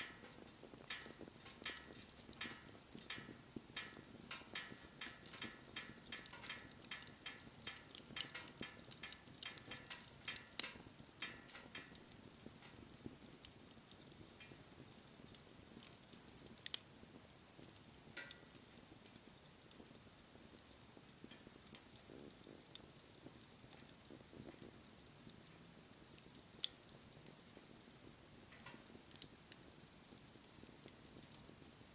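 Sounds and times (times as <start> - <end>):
soft fire hiss: 0.0 - 31.9
wood fire crackling and popping: 0.0 - 31.9.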